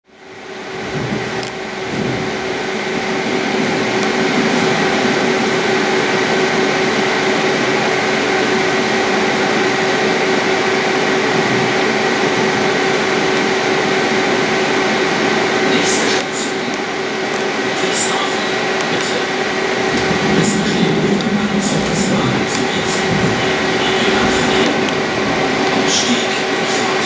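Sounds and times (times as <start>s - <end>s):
train carriage running noise: 0.0s - 27.0s.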